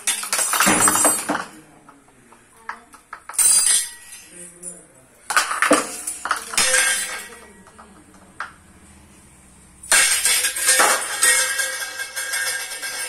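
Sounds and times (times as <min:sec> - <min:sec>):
metal dishes clinking: 0:00.0 - 0:02.0, 0:02.7 - 0:08.5, 0:09.9 - 0:13.0.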